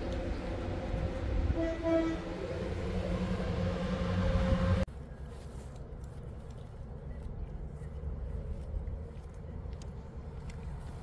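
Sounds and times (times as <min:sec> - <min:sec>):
train engine drone: 0:00.0 - 0:11.0.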